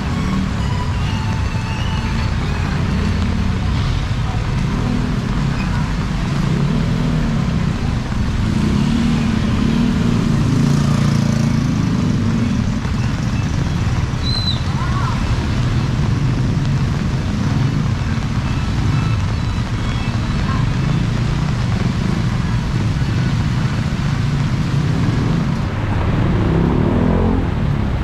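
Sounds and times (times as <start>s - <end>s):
street noise: 0.0s - 28.0s
vehicle engine running: 0.0s - 28.0s.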